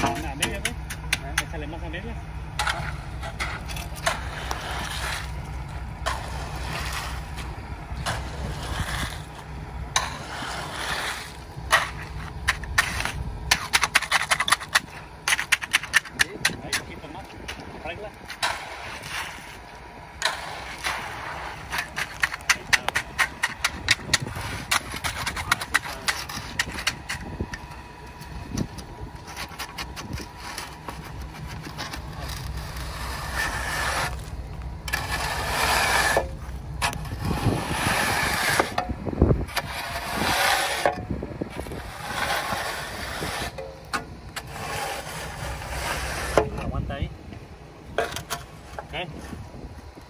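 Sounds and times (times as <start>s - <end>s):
truck engine running: 0.0s - 46.4s
rake scraping through concrete: 0.0s - 47.1s.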